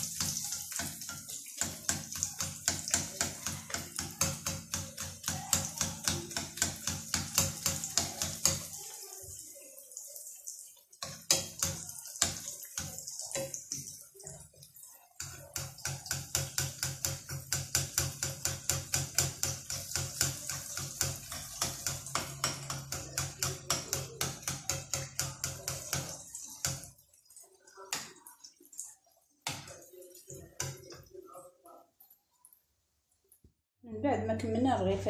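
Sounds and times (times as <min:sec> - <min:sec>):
flatbreads sizzling in oil: 0:00.0 - 0:33.6.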